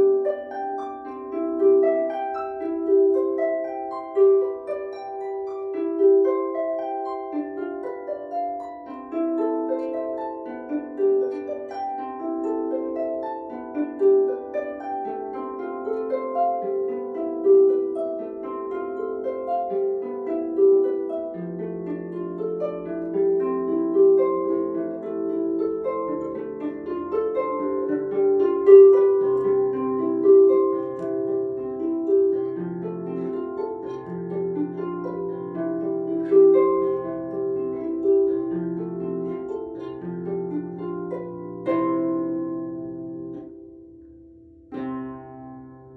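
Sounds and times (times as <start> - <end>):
harp being plucked: 0.0 - 45.9.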